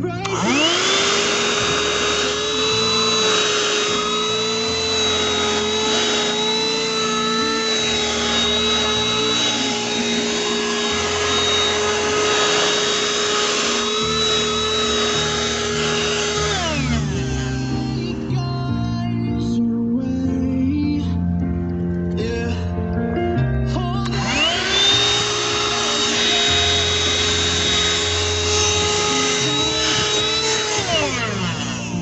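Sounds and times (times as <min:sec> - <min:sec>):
handheld vacuum motor whining: 0:00.0 - 0:18.8, 0:24.0 - 0:32.0.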